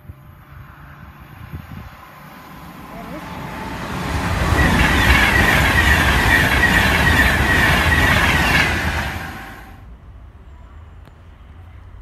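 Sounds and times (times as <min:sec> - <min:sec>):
train wheels rushing on rail: 0:00.1 - 0:09.9.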